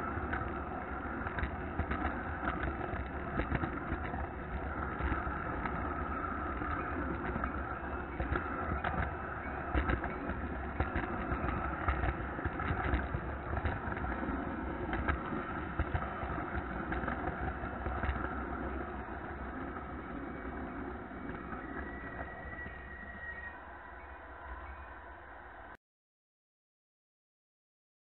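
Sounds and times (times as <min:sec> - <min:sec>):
wheels clicking over rail joints: 0:00.0 - 0:24.9
model train rolling rumble: 0:00.0 - 0:25.7.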